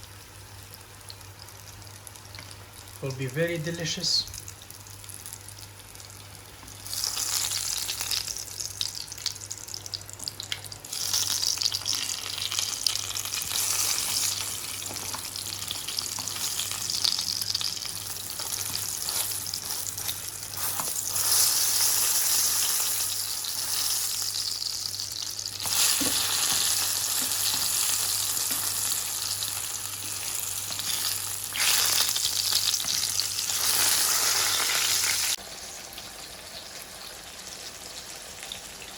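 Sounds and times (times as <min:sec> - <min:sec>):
vegetables sizzling in hot oil: 0:00.0 - 0:38.9.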